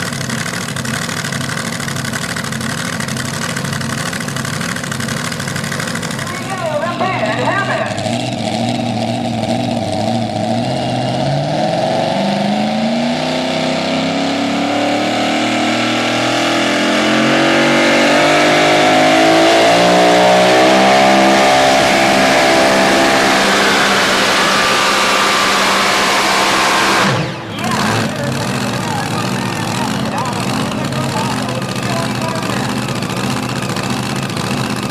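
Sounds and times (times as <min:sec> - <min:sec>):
truck engine running under load: 0:00.0 - 0:34.9.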